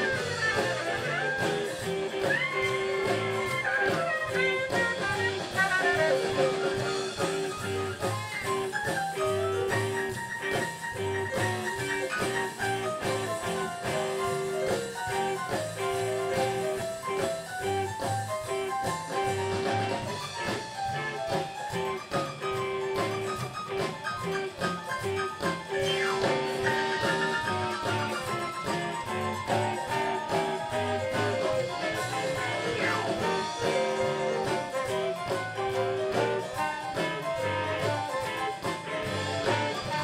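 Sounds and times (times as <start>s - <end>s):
guitar: 0.0s - 40.0s
live blues band playing: 0.0s - 40.0s.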